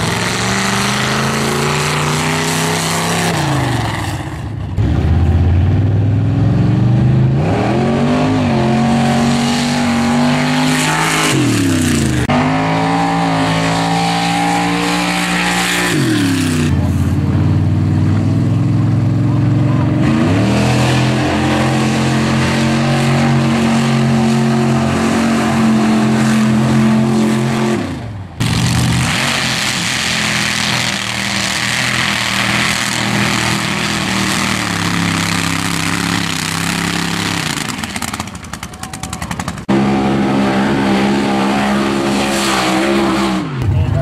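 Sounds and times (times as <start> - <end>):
truck engine at high revs: 0.0 - 44.0.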